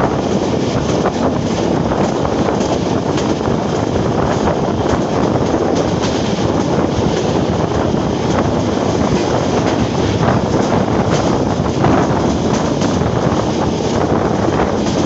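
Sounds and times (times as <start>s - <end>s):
train wheels on track: 0.0s - 15.0s
wind rushing past microphone: 0.0s - 15.0s.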